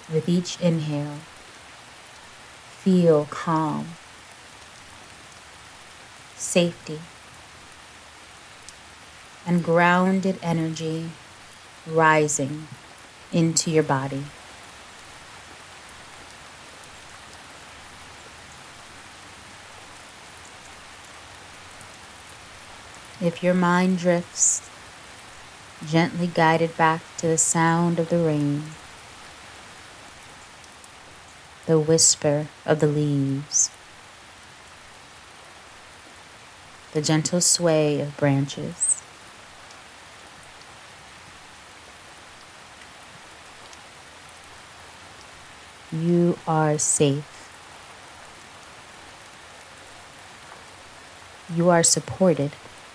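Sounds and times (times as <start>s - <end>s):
faint raindrop ticks: 0.0s - 2.9s, 3.7s - 31.7s, 38.7s - 46.0s, 46.8s - 51.5s, 52.5s - 52.9s
steady rain hissing: 0.0s - 52.9s.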